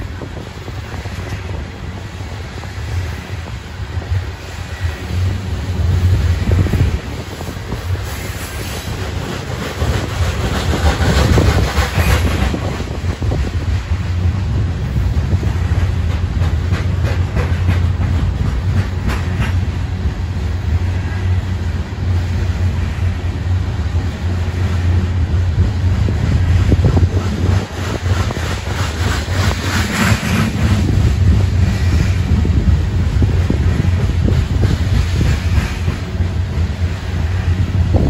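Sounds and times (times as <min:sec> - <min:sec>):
freight train rumbling past: 0:00.0 - 0:38.0
wheels clicking on rails: 0:00.0 - 0:38.0.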